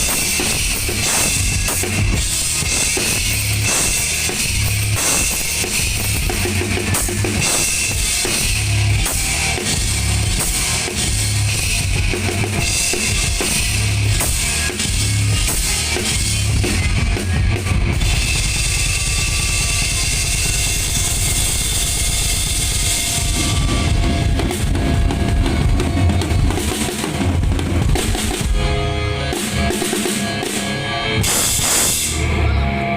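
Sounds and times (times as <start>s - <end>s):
bass drum beat: 0.0s - 30.2s
cymbals: 0.0s - 32.3s.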